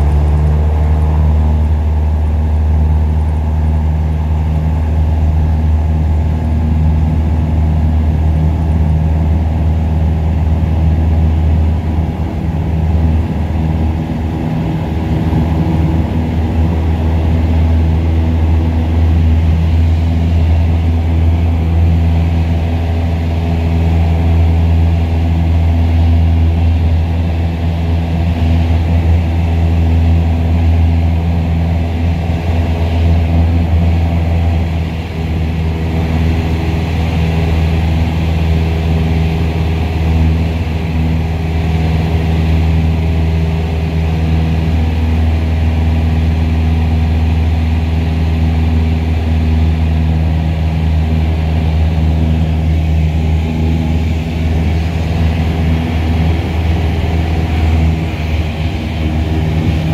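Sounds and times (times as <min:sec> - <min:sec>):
aircraft engine and propeller hum: 0:00.0 - 0:59.9.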